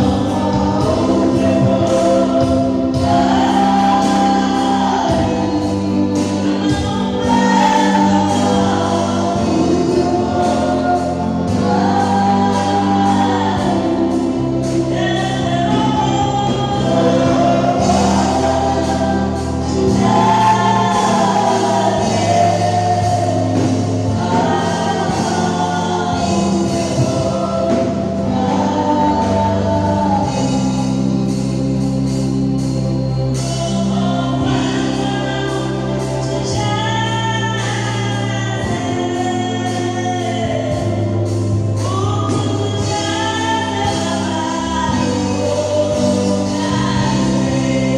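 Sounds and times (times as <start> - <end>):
gospel choir singing: 0.0 - 47.9
instrumental accompaniment: 0.0 - 47.9.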